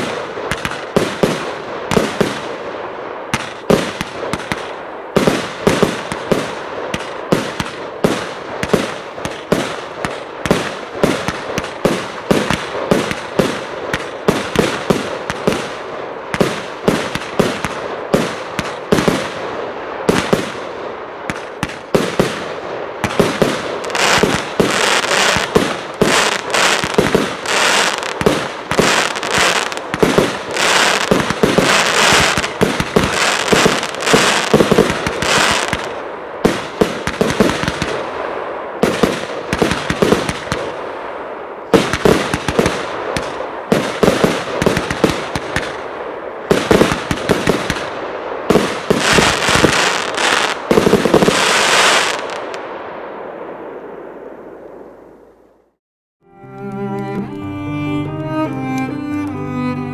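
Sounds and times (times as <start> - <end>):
fireworks popping and bursting: 0.0 - 2.6, 3.2 - 40.8, 41.7 - 52.7.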